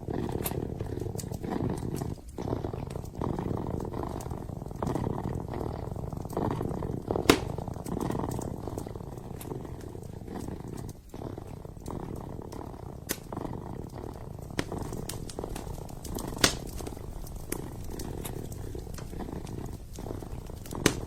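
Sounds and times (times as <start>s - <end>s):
fireplace crackling and popping: 0.0s - 21.0s
kitten purring: 0.0s - 21.0s.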